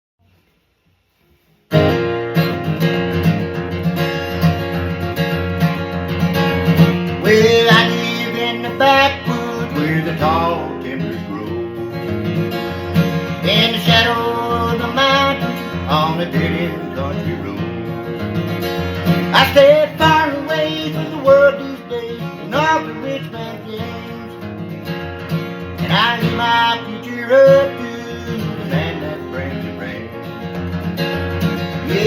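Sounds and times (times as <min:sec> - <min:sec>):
acoustic guitar music: 0:00.4 - 0:32.0.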